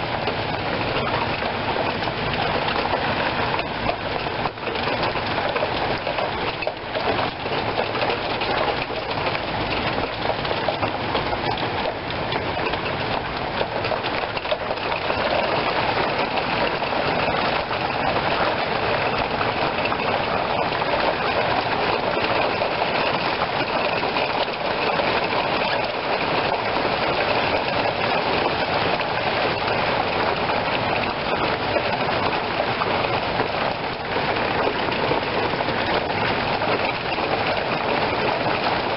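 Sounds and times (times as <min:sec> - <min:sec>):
rain on a wooden deck: 0:00.0 - 0:38.9.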